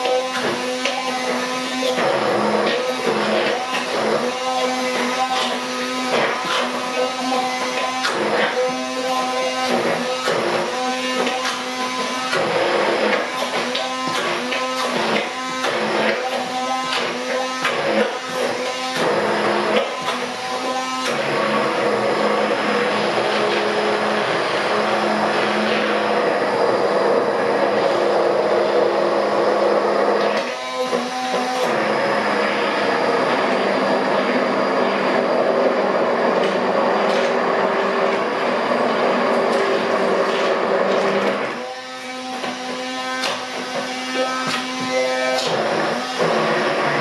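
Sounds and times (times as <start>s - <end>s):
immersion blender motor whir: 0.0s - 47.0s.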